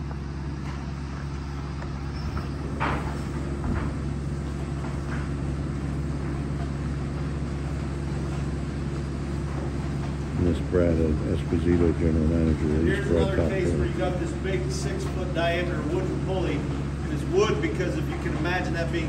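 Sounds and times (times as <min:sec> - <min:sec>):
line shaft machinery drone: 0:00.0 - 0:19.0.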